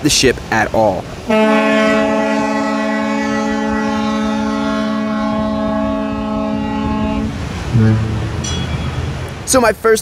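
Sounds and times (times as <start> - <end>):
ship's horn blast: 1.3 - 9.4.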